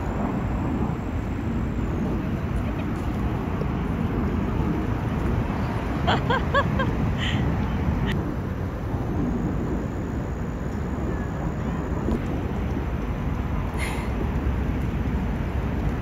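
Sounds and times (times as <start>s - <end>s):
wind on the microphone: 0.0s - 16.0s.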